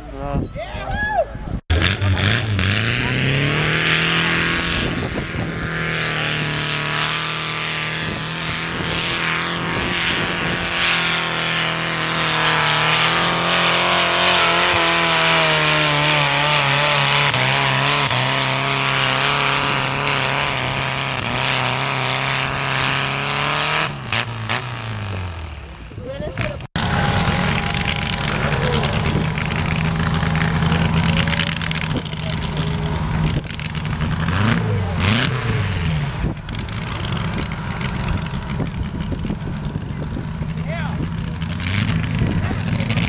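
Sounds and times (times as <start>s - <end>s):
tractor engine revving under load: 1.6s - 43.0s.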